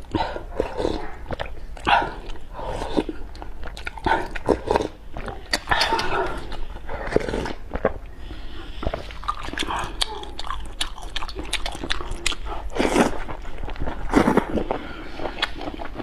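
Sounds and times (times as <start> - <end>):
chewing with wet mouth clicks: 0.0 - 16.0.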